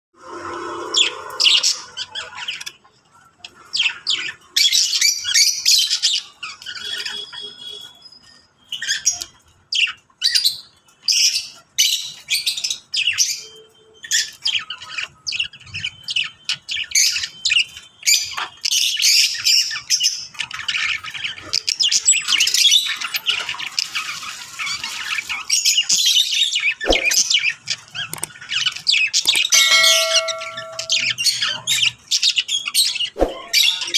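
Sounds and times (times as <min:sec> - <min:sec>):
small birds chirping and squawking: 0:00.3 - 0:33.9.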